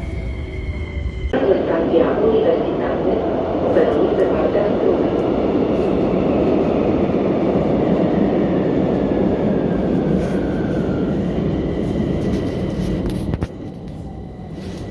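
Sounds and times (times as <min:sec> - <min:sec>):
metro train rumble: 0:00.0 - 0:14.9.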